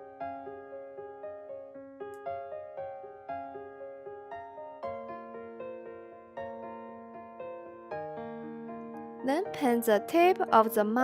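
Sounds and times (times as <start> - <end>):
gentle solo piano music: 0.0 - 11.0.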